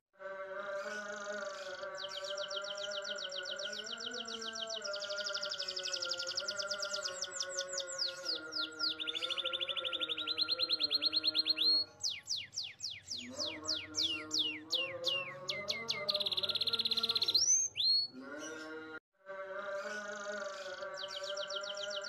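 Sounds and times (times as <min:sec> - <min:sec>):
canary singing: 0:00.7 - 0:18.9, 0:19.7 - 0:22.0.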